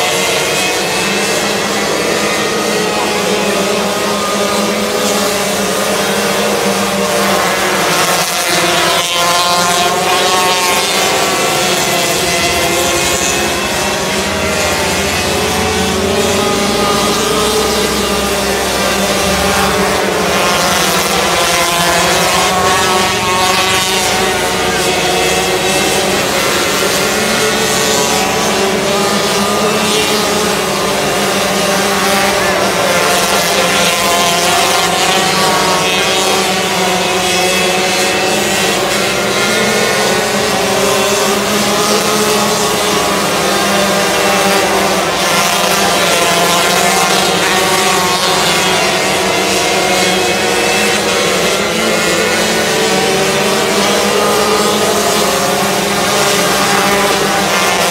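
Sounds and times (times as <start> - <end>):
racing car engines buzzing: 0.0 - 57.9.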